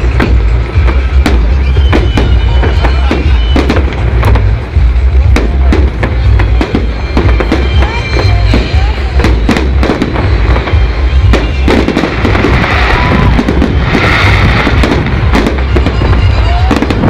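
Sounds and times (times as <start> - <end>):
crackling firework bursts: 0.0 - 17.0
fireworks bangs: 0.0 - 17.0
music: 0.0 - 17.0.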